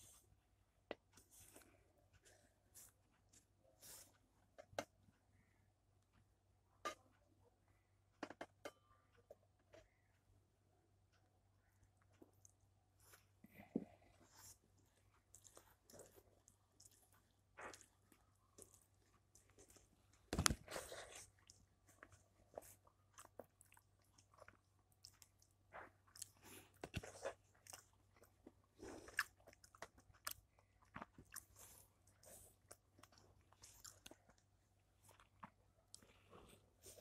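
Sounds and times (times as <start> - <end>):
quiet chewing: 0.0 - 6.2, 11.2 - 37.0.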